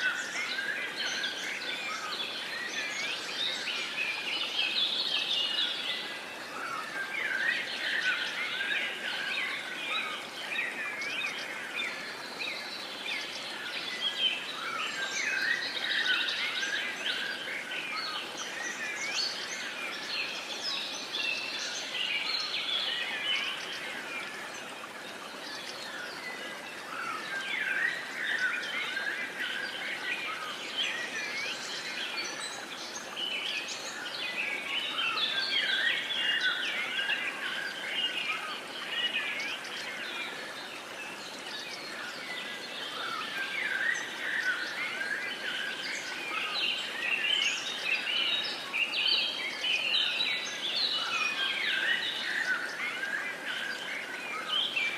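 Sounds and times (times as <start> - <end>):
chorus of birds chirping: 0.0 - 54.9
faint outdoor hiss: 0.0 - 54.9.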